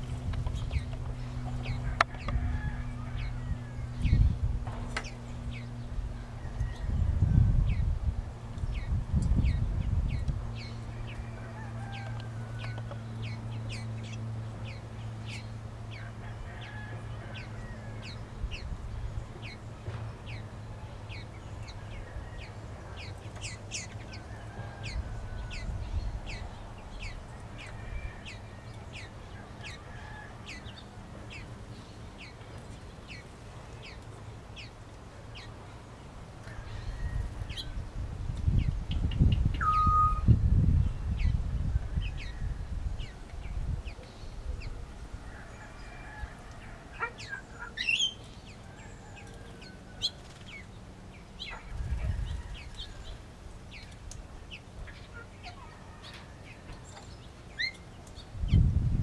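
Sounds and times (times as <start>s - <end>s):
distant roosters crowing: 0.0s - 38.0s, 39.6s - 58.3s
steady low hum: 0.0s - 59.0s.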